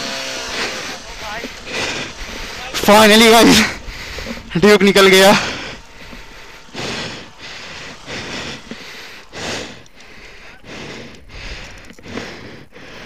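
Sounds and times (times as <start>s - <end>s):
person breathing hard: 0.4s - 2.7s, 3.5s - 4.6s, 5.2s - 13.0s.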